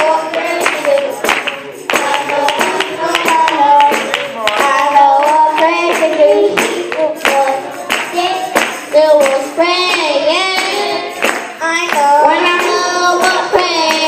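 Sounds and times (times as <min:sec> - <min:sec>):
children singing gospel song: 0:00.0 - 0:14.0
hand-clapping on the beat: 0:00.0 - 0:14.0.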